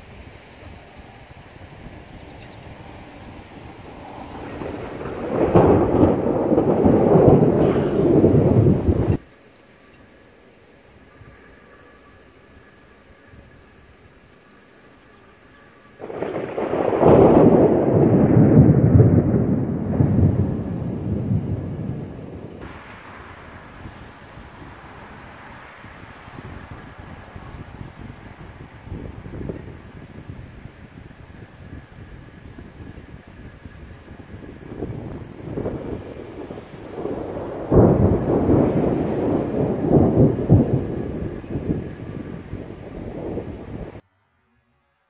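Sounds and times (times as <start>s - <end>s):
thunder rumbling: 0.0s - 9.2s, 11.0s - 44.0s.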